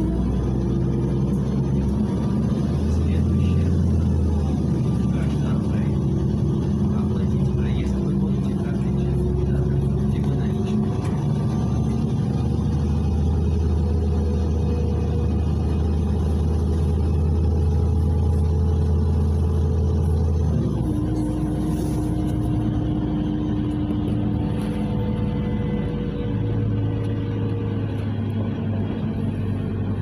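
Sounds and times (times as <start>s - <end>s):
bus engine humming: 0.0s - 30.0s
road noise: 0.0s - 30.0s.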